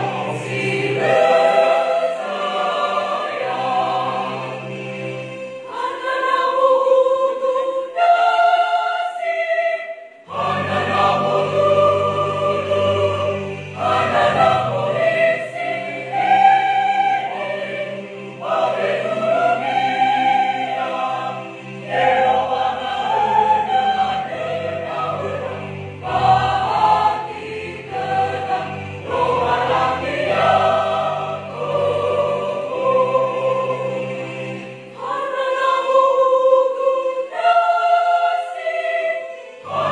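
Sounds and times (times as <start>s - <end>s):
mixed choir singing a hymn: 0.0s - 39.9s.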